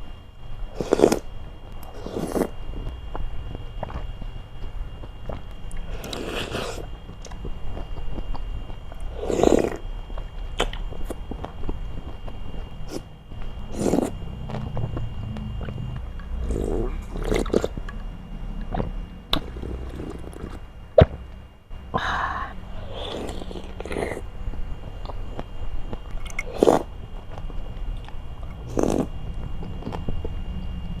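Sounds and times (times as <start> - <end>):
chewing wet fruit: 0.7 - 18.0, 18.6 - 21.2, 22.8 - 24.3, 25.0 - 30.4.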